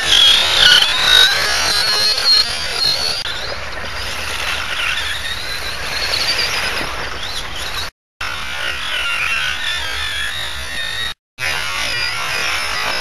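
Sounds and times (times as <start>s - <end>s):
electric rc car motors whining: 0.0s - 13.0s.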